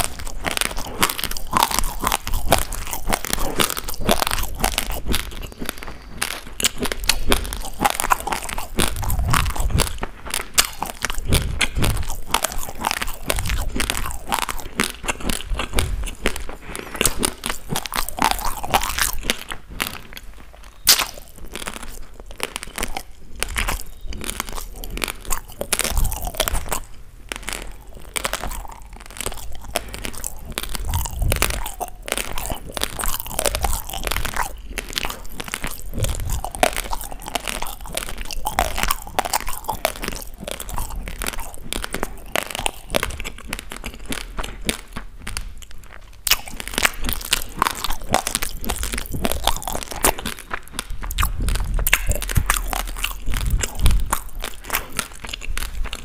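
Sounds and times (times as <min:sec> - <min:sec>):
chewing crunchy raw rice: 0:00.0 - 0:56.0.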